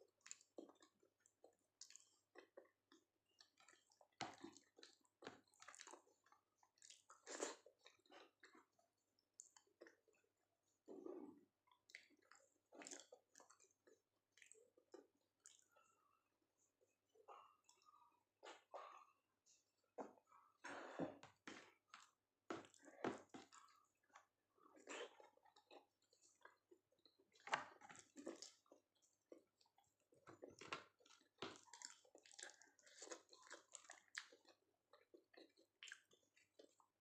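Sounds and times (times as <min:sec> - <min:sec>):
person chewing wet food: 0:00.0 - 0:37.0.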